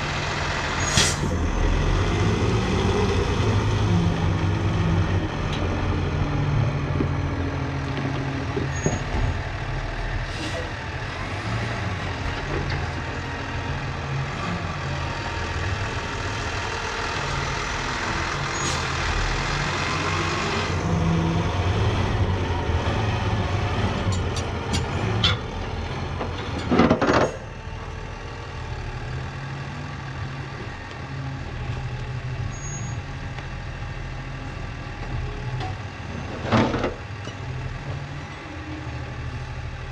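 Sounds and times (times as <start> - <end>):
heavy vehicle engine droning: 0.0 - 39.9.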